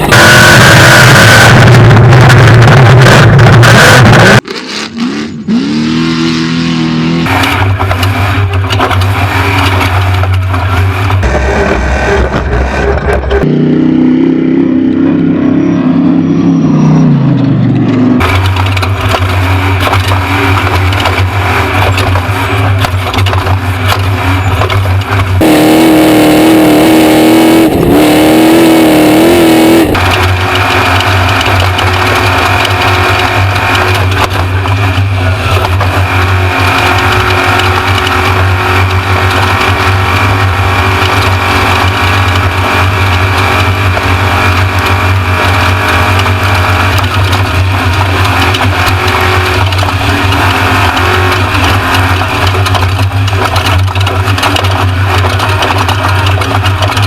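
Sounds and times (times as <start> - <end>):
race truck engine under load: 0.0 - 57.0
tyre and chassis noise: 0.0 - 57.0.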